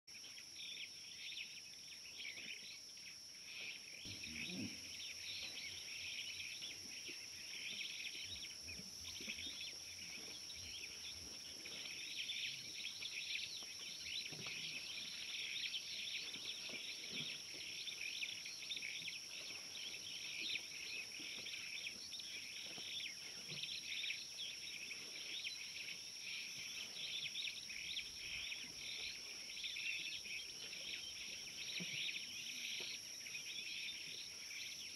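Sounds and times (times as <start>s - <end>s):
insects chorus: 0.1s - 34.9s.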